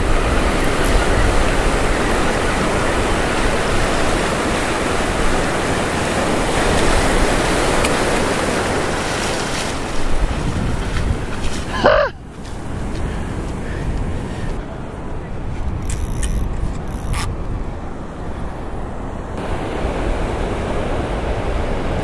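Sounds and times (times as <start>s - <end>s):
ocean surf rushing: 0.0s - 15.8s, 17.6s - 22.0s.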